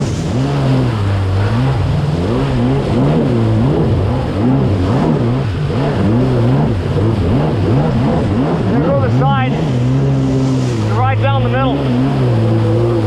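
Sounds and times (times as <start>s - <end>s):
jet ski engine revving: 0.0s - 13.0s
water rushing: 0.0s - 13.0s.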